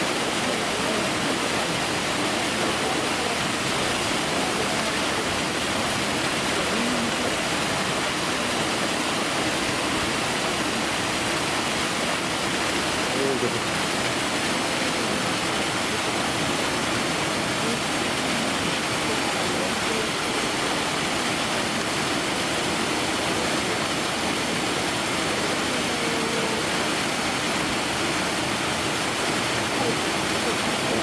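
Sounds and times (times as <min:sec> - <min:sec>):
running water hiss: 0:00.0 - 0:31.0.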